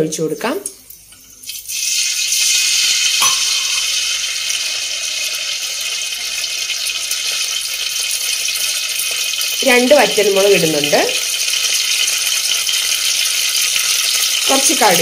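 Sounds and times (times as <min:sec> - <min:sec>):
oil sizzling in a pan: 0:00.8 - 0:15.0.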